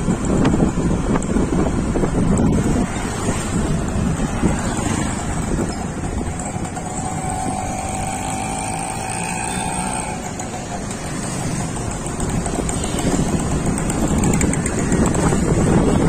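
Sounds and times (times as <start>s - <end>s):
faint traffic whine: 0.0s - 16.0s
motorcycle engine running: 0.0s - 16.0s
wind buffeting microphone: 0.0s - 16.0s.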